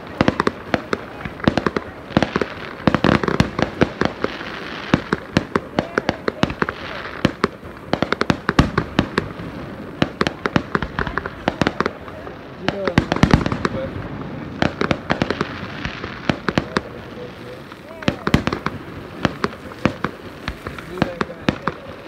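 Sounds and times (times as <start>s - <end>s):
fireworks cracking and popping: 0.0s - 22.0s
steady hiss: 0.0s - 22.0s.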